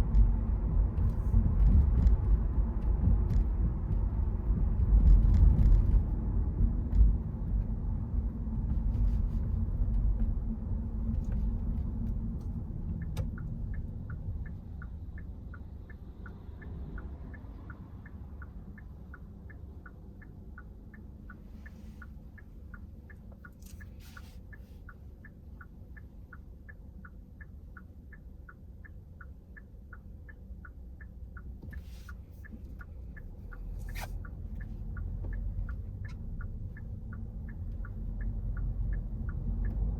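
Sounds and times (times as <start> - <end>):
engine and road rumble: 0.0 - 39.9
turn signal ticking: 0.0 - 39.9.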